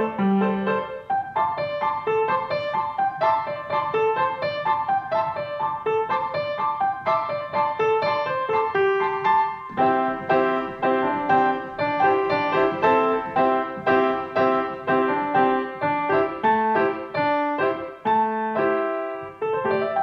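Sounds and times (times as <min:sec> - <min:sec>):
grand piano playing: 0:00.0 - 0:20.0.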